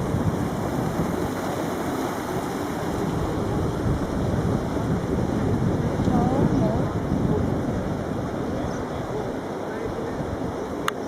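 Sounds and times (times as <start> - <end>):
surf washing: 0.0 - 11.0
wind on microphone: 0.0 - 11.0.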